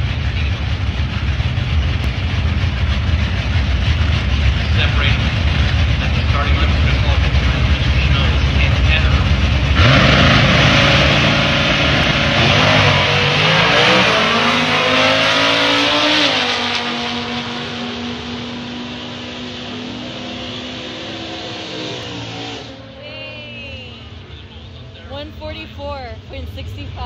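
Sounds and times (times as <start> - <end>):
drag car engine at full throttle: 0.0 - 27.0.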